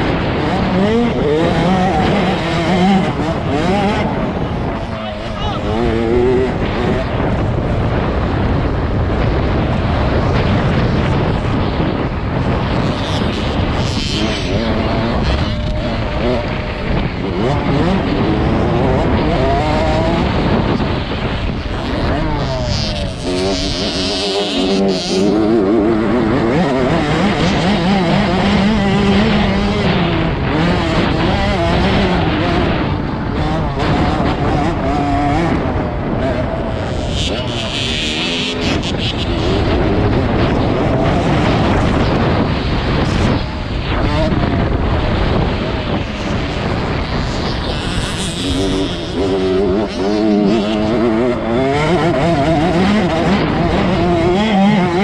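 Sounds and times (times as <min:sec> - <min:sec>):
motorbike engine: 0:00.0 - 0:55.0
wind noise on microphone: 0:00.0 - 0:55.0.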